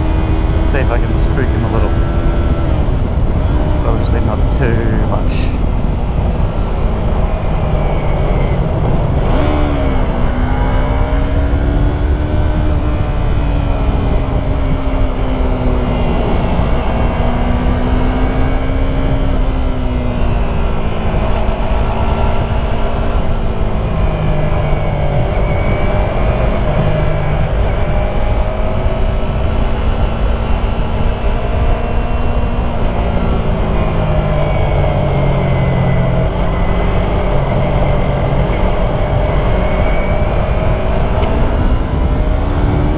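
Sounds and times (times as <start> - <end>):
motorcycle engine revving: 5.8 - 42.9.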